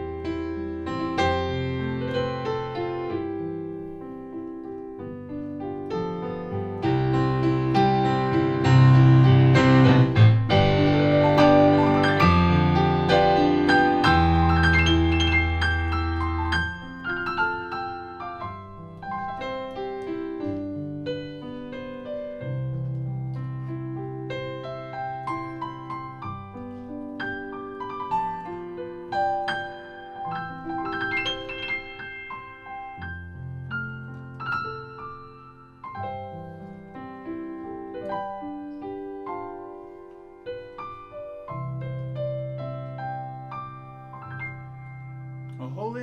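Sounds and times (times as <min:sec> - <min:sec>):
electronic keyboard chords: 0:00.0 - 0:46.0
slow solo piano: 0:00.0 - 0:46.0.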